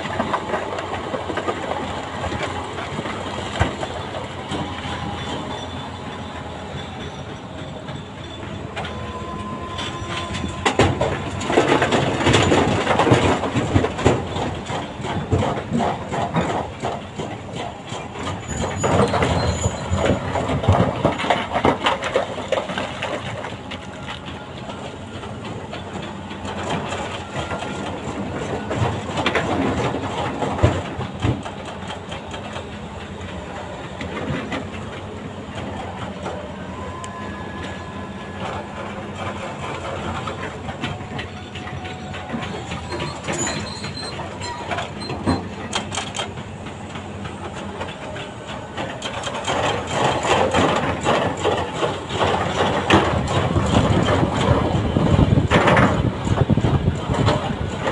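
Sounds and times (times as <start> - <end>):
excavator diesel engine under load: 0.0 - 57.9.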